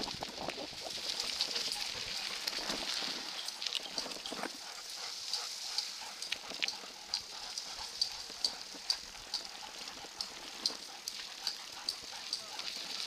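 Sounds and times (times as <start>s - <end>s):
bicycle rolling on dirt: 0.0s - 13.0s.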